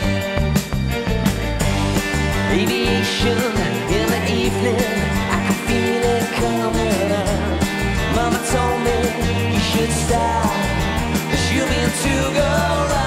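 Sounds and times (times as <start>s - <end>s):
rock band playing live: 0.0s - 13.0s
person singing lead vocal: 2.4s - 13.0s.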